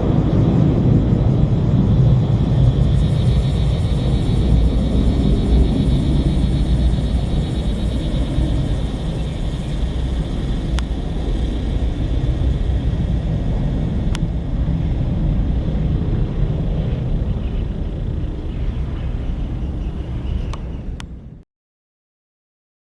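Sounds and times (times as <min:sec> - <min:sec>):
jet engine rumble and hiss: 0:00.0 - 0:21.4.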